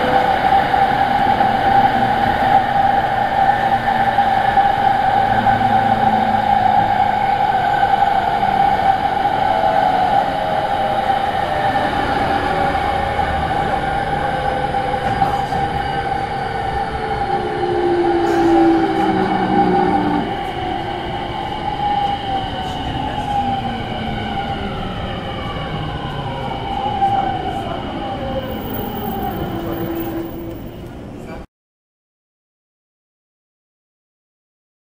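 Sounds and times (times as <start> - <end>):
electric train steady high tone: 0.0 - 31.3
train track noise: 0.0 - 31.4.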